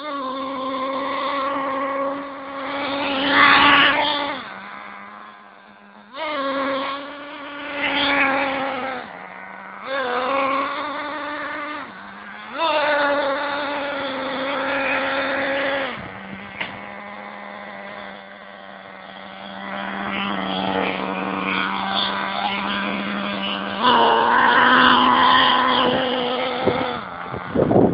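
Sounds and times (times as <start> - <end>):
model engine idling and revving: 0.0 - 27.9.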